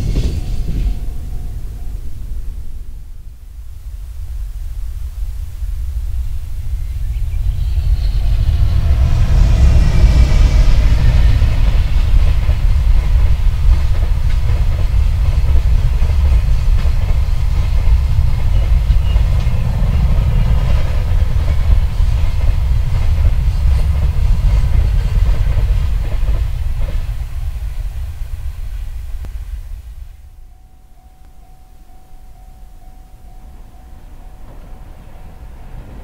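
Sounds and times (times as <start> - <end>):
electric locomotive whine: 0.0 - 36.0
wagons rumbling on rails: 0.0 - 36.0.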